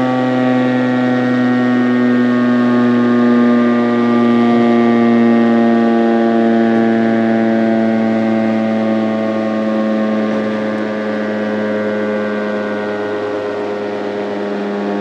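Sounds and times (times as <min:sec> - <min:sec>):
outdoor warning siren: 0:00.0 - 0:15.0.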